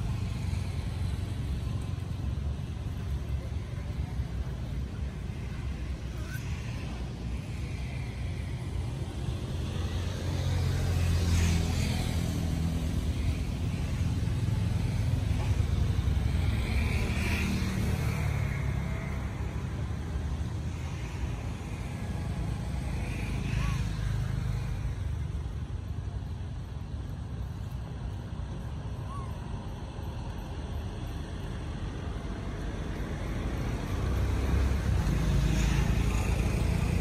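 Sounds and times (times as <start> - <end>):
motor vehicle rumble: 0.0 - 37.0.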